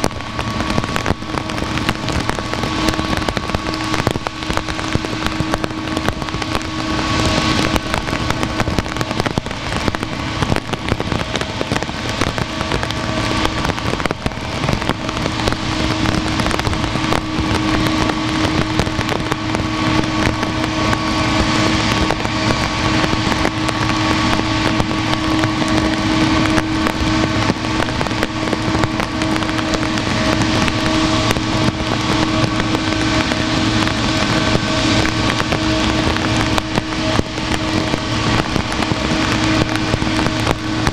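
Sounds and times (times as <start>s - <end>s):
jet engines whining: 0.0s - 40.9s.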